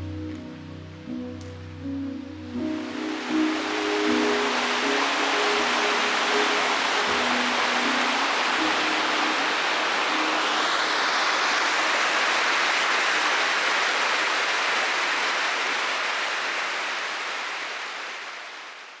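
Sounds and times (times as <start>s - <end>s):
river rushing over stones: 2.6s - 19.0s.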